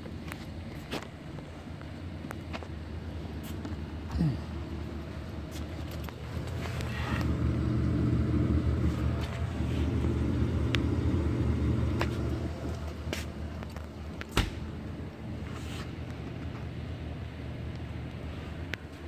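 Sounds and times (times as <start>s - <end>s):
refrigerator compressor humming: 1.9s - 19.0s.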